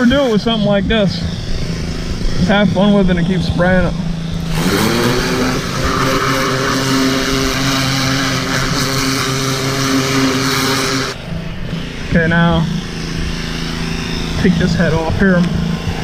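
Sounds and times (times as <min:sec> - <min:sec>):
high-pressure water jet hissing: 0:00.0 - 0:16.0
pressure washer motor humming: 0:00.0 - 0:16.0.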